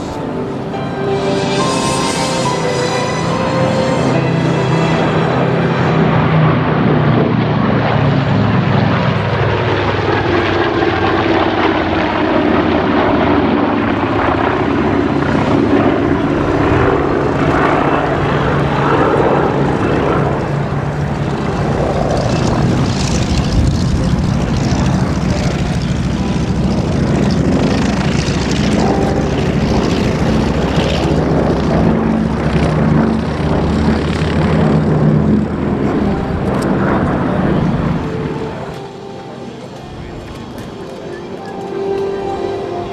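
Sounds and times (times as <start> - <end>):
propeller aircraft engines droning: 0.0 - 42.9.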